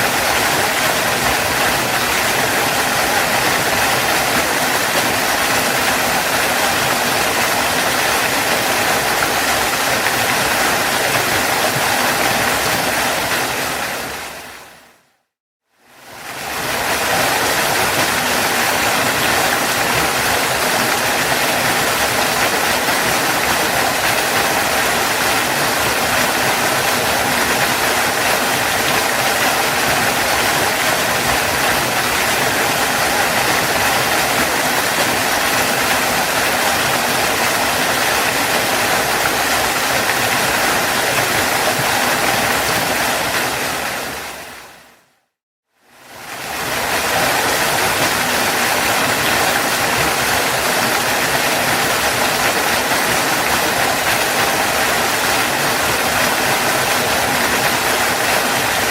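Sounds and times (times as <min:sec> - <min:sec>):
waterfall rushing: 0:00.0 - 0:15.0, 0:16.0 - 0:45.1, 0:46.0 - 0:58.9.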